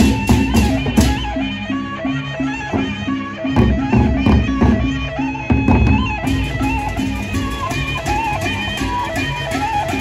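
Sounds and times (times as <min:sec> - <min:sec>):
large drums beating: 0:00.0 - 0:01.4, 0:02.7 - 0:10.0
wavering melody: 0:00.0 - 0:10.0.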